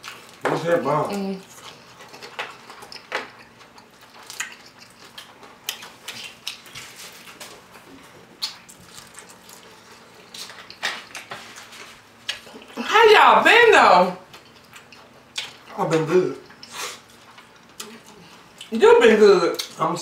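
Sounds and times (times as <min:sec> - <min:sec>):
crunching and chewing: 0:00.0 - 0:12.8, 0:14.2 - 0:18.7.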